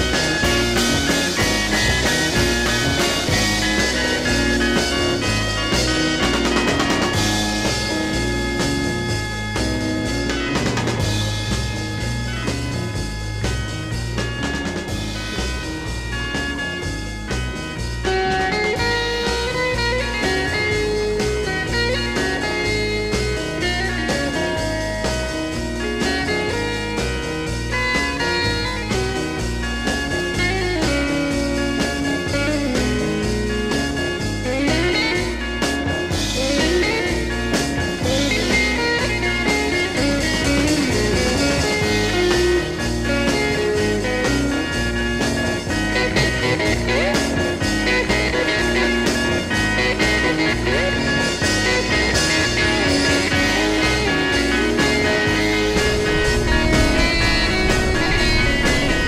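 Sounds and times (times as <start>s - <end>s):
instrumental blues rock music: 0.0s - 59.0s.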